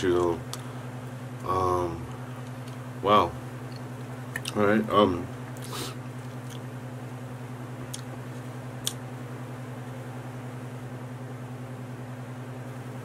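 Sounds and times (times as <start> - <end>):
low hum with two tones: 0.0 - 13.0.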